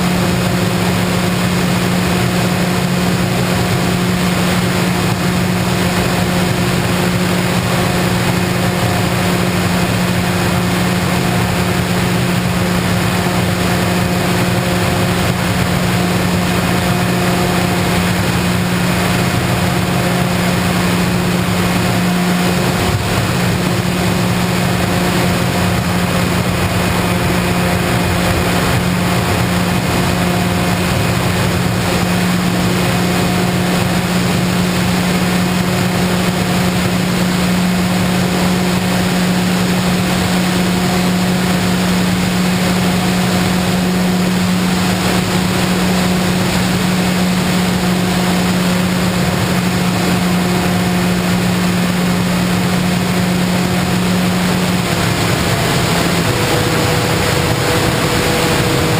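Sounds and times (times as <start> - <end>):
model plane motor droning: 0.0 - 58.9
rushing air noise: 0.0 - 58.9.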